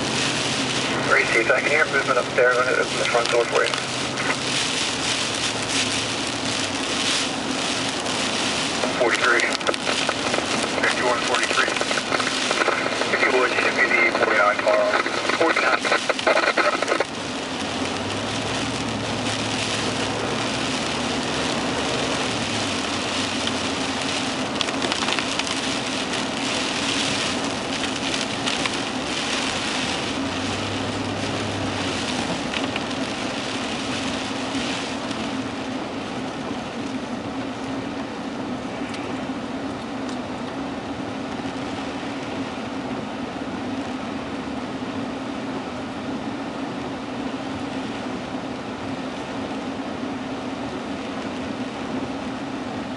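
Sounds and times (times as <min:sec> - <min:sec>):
heavy rainstorm rushing: 0:00.0 - 0:52.9.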